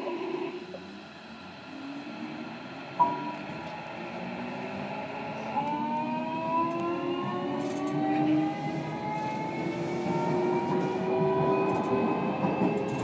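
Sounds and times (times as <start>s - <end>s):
electric train motor whine: 0.0s - 13.0s
wheel and rail rumble: 0.0s - 13.0s.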